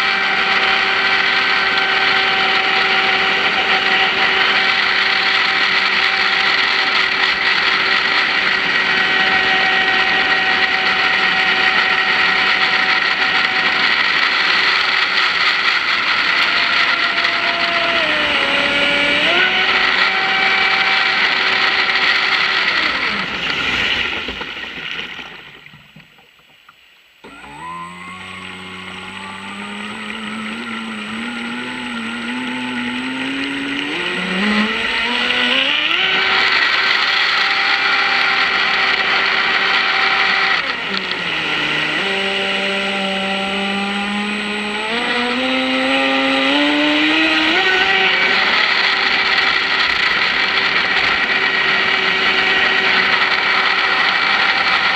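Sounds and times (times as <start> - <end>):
electric motor high whine: 0.0 - 24.2, 27.2 - 54.9.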